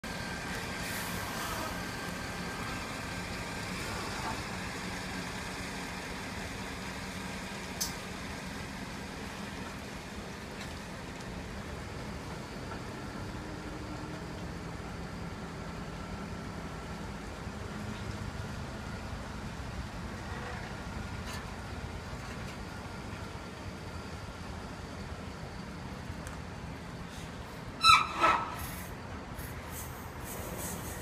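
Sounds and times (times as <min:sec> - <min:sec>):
truck diesel engine running: 0:00.0 - 0:27.8.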